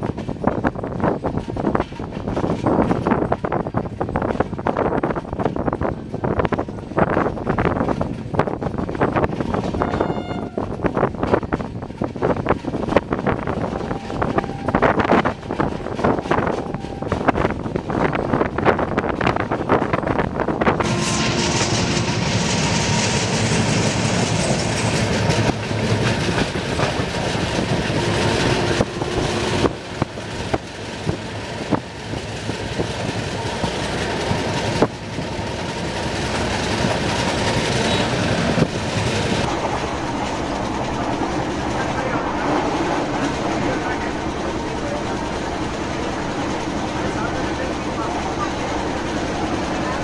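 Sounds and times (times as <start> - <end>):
train rumble: 0.0 - 50.0
wheels clacking over rail joints: 0.0 - 50.0.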